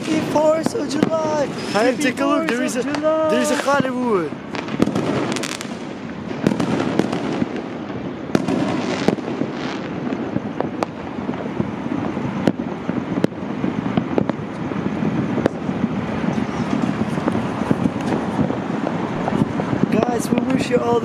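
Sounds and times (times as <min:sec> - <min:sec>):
distant fireworks bursting: 0:00.0 - 0:21.0
sharp firework bangs: 0:00.0 - 0:21.0.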